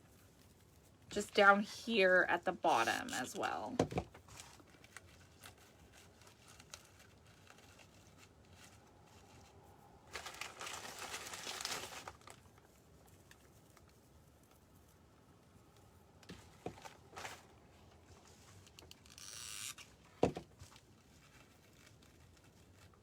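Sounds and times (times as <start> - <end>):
dry material crinkling and rustling: 0.0 - 23.0.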